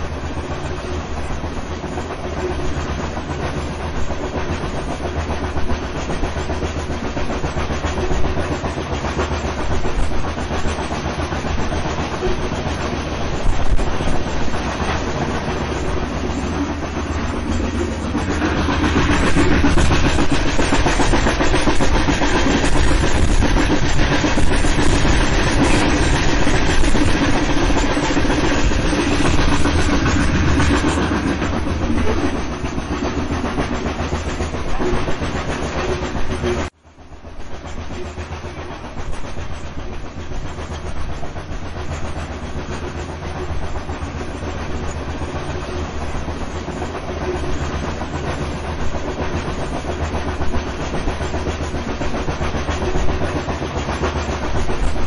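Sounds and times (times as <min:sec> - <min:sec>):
steam train rumbling on rails: 0:00.0 - 0:55.0.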